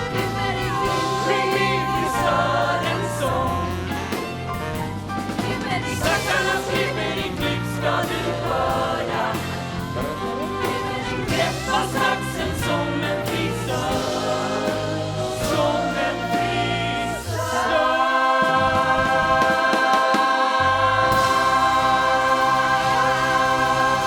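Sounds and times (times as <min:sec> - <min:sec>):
choir singing: 0:00.0 - 0:24.0
instrumental backing: 0:00.0 - 0:24.0.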